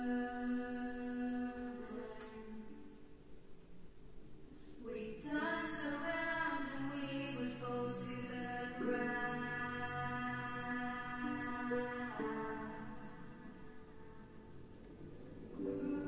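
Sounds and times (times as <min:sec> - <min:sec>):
girls singing in harmony: 0:00.0 - 0:03.1, 0:04.8 - 0:14.7, 0:15.4 - 0:16.0.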